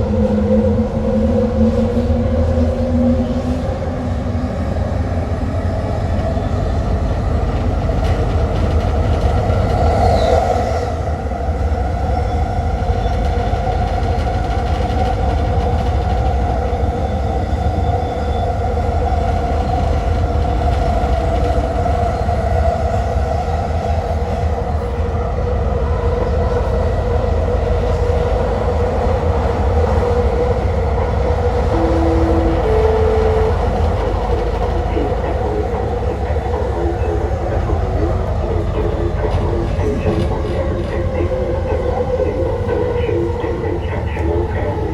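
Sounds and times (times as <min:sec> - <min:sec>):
train rumbling: 0:00.0 - 0:44.9
train tonal hum: 0:00.0 - 0:44.9.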